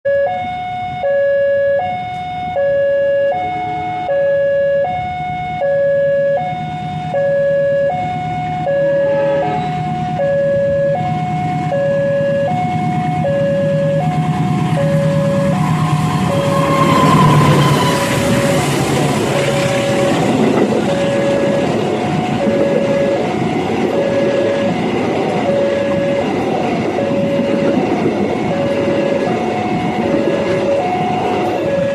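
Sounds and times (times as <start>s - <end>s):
low rumble of train: 0.1s - 31.9s
two-tone level crossing alarm: 0.1s - 31.9s.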